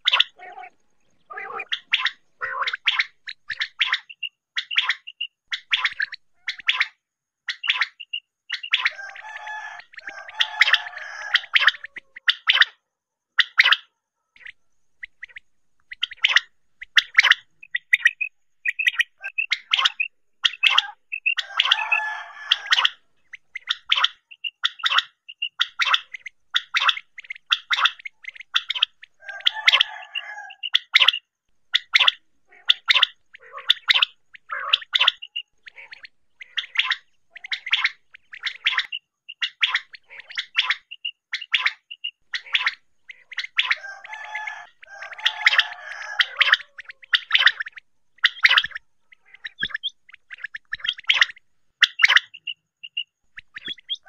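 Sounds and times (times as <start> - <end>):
quail calling: 0.0 - 12.8, 13.4 - 54.0.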